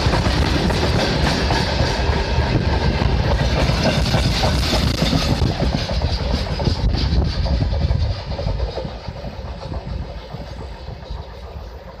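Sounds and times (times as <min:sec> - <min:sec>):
train wheels rumbling and clicking: 0:00.0 - 0:12.0.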